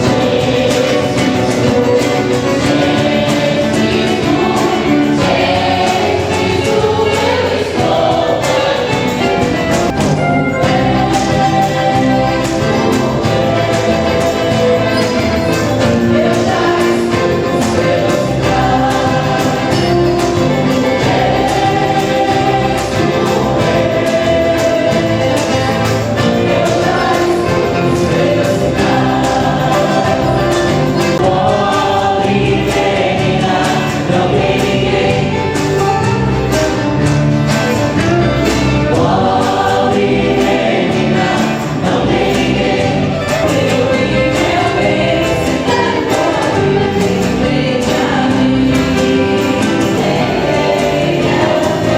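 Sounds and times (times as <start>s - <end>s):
group of voices singing: 0.0s - 51.9s
instrumental accompaniment with beat: 0.0s - 51.9s.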